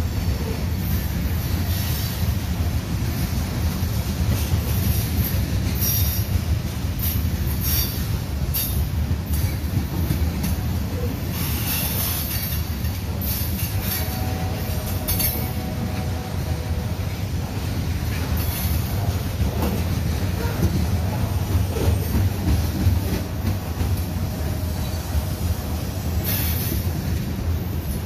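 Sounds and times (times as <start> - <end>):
train cars rumbling past: 0.0 - 28.0.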